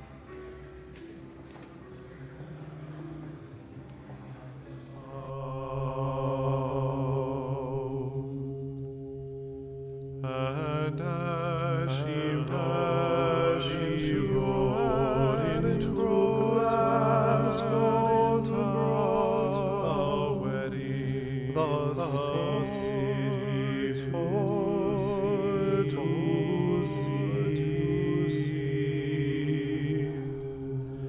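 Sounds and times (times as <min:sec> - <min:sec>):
chant-like vocal music: 0:00.0 - 0:31.0.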